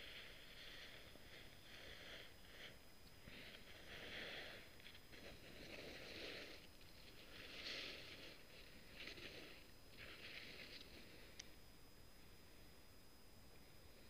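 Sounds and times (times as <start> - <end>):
person breathing softly: 0.0 - 11.6.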